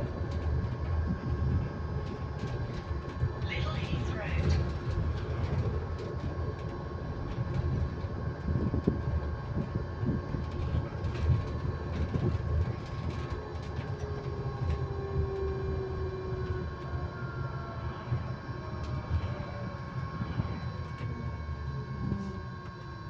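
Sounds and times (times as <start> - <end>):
steady electric whine: 0.0 - 23.0.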